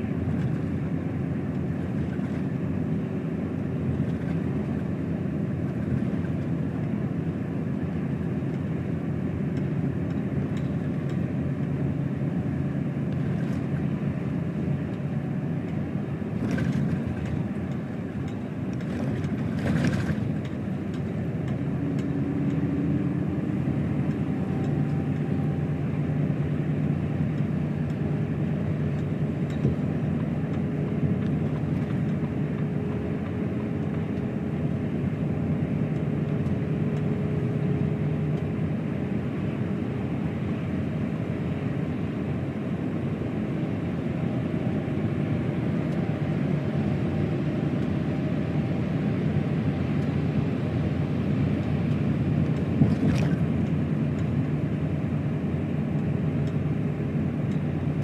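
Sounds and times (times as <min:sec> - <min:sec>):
truck engine drone: 0:00.0 - 0:58.0.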